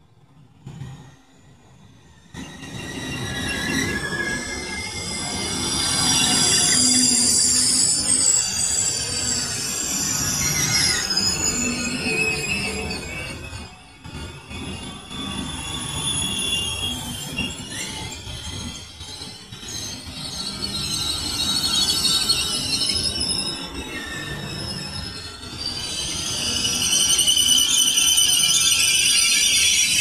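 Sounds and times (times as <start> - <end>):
train rumble: 0.0 - 30.0
train wheels squealing: 0.0 - 30.0.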